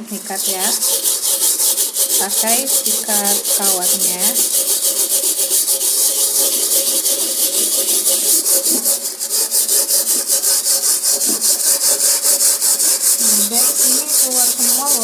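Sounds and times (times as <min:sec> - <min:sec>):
wire brush scrubbing a frying pan: 0:00.0 - 0:15.0.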